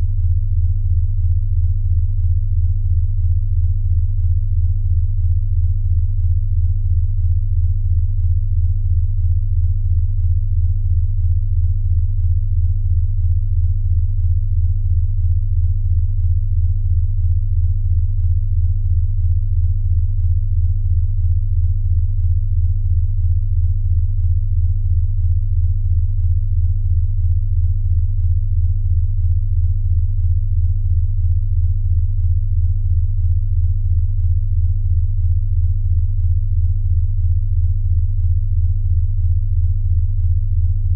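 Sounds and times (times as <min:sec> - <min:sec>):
pulsing low electronic tone: 0:00.0 - 0:40.9.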